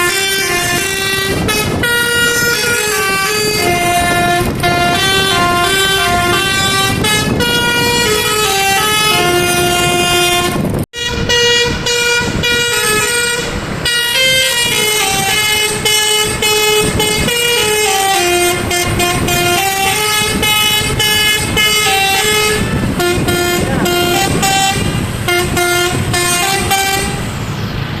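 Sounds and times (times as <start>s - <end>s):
musical air horn playing a tune: 0.0s - 27.3s.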